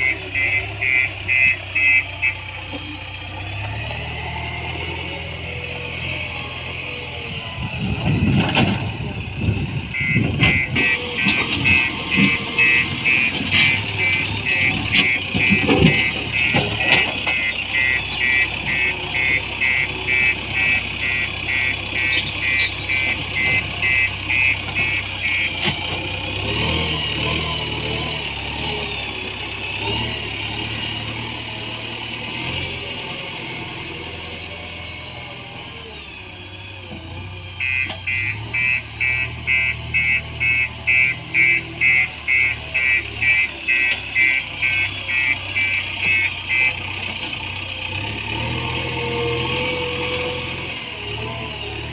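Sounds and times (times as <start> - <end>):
diesel engine working under load: 0.0 - 51.9
reversing alarm beeping: 0.0 - 51.9.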